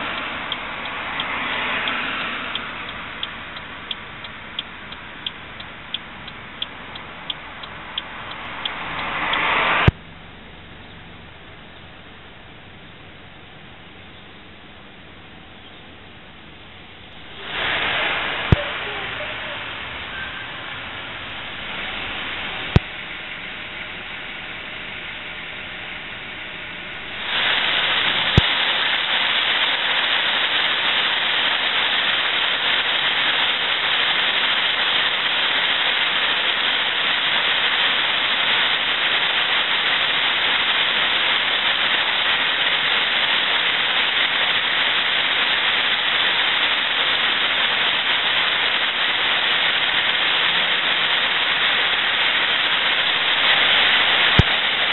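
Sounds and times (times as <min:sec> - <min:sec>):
heavy rain pouring: 0:00.0 - 0:14.0, 0:14.6 - 0:54.9
car interior noise: 0:00.0 - 0:54.9.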